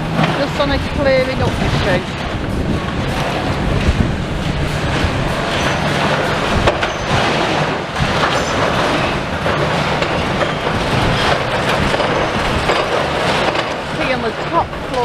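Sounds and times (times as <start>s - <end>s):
debris clanking and scraping: 0.0s - 15.0s
excavator engine running: 0.0s - 15.0s
wind buffeting microphone: 0.0s - 15.0s.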